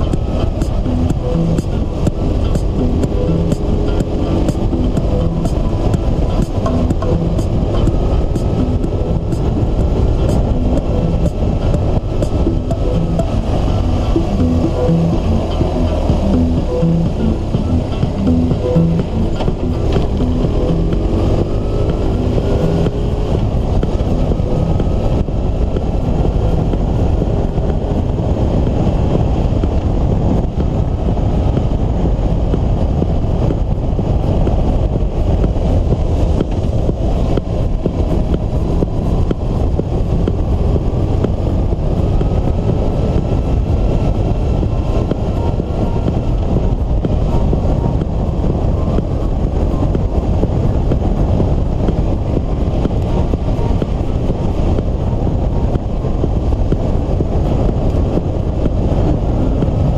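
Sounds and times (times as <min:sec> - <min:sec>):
heavy rain: 0:00.0 - 0:59.9
wind and road rush: 0:00.0 - 0:59.9.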